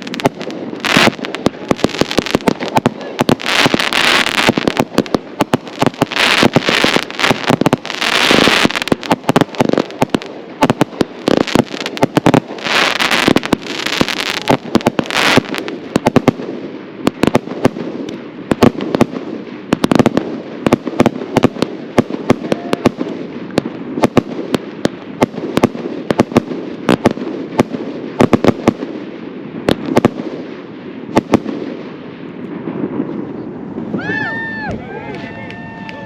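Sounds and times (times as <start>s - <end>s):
firework crackling hiss: 0.0s - 32.3s
firework bangs: 0.0s - 36.0s.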